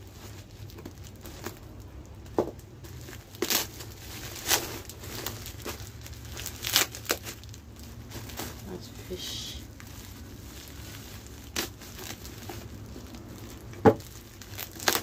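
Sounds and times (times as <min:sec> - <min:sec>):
low steady hum: 0:00.0 - 0:15.0
plastic bags crinkling: 0:00.0 - 0:15.0.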